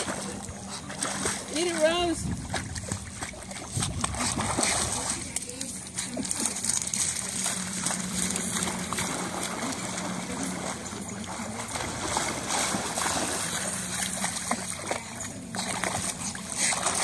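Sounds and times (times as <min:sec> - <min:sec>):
faint low hum: 0:00.0 - 0:17.0
water sloshing and splashing: 0:00.0 - 0:17.0.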